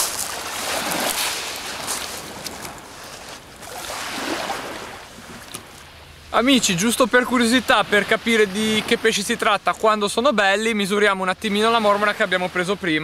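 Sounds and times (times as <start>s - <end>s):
small waves washing ashore: 0.0s - 13.0s.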